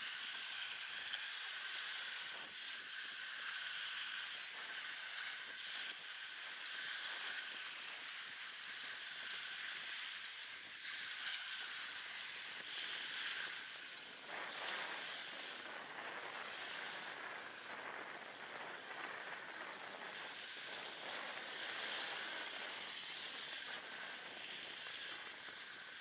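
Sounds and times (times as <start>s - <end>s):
small waves breaking on a beach: 0.0s - 26.0s
wind on microphone: 0.0s - 26.0s.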